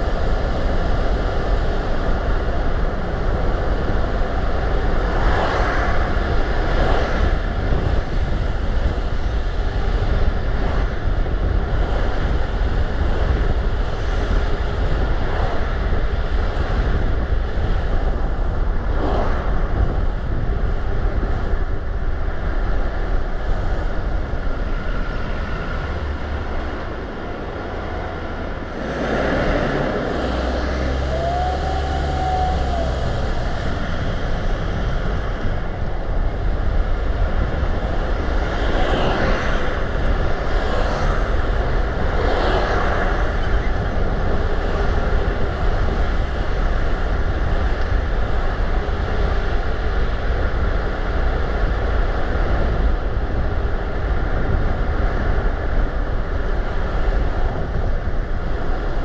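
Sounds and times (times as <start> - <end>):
tyre and wind rumble: 0.0 - 59.0.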